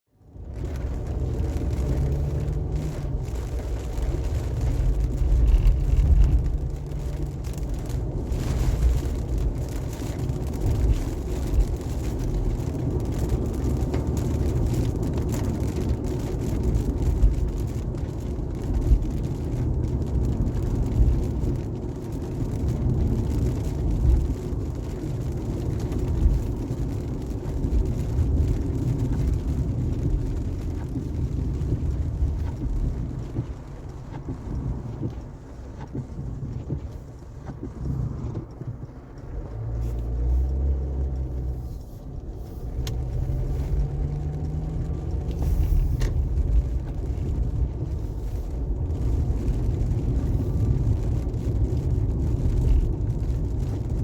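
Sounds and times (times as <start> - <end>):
road and tyre rumble: 0.0 - 54.0
car driving in rain: 0.1 - 54.0.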